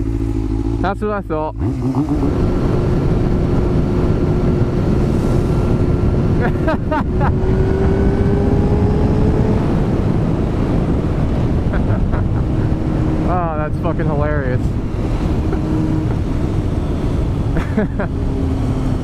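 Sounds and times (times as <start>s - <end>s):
motorcycle engine running: 0.0s - 19.0s
wind rumble on microphone: 1.5s - 19.0s.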